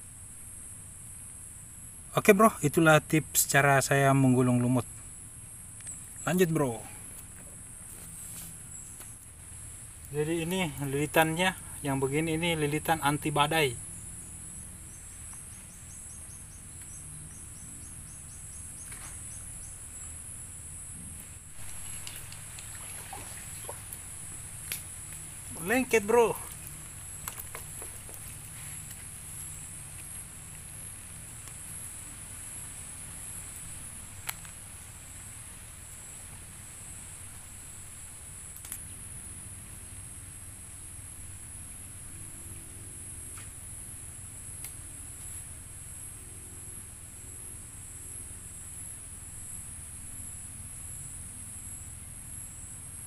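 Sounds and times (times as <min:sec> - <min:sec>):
insect drone: 0:00.0 - 0:53.0
quick insect chirps: 0:00.0 - 0:53.0.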